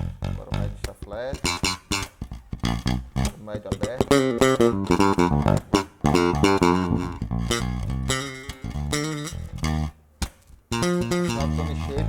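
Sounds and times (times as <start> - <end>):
electric bass notes: 0.0 - 12.0.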